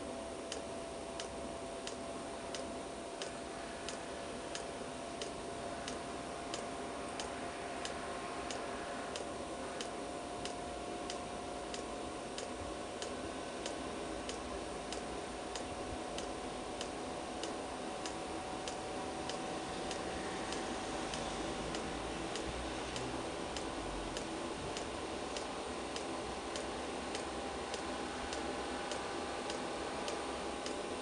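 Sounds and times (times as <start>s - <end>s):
fan whine and rush: 0.0s - 31.0s.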